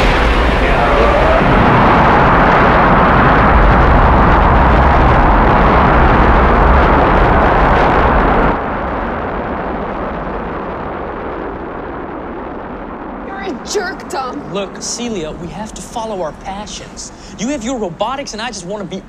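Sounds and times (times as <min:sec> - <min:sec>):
rocket engines roaring: 0:00.0 - 0:19.0.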